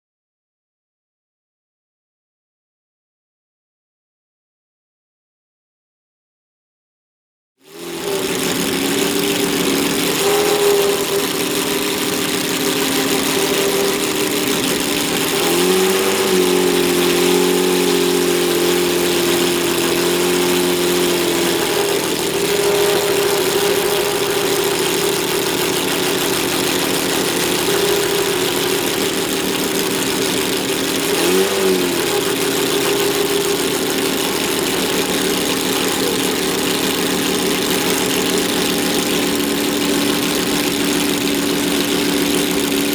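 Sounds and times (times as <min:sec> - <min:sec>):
car engine idling: 0:07.7 - 0:42.9.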